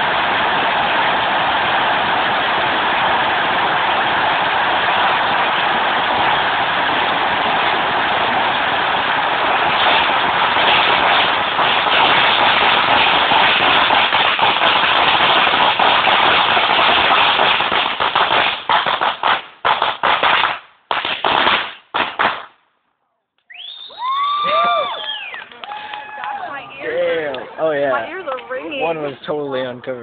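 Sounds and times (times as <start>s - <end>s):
firecrackers crackling and banging: 0.0s - 22.8s, 23.4s - 30.0s.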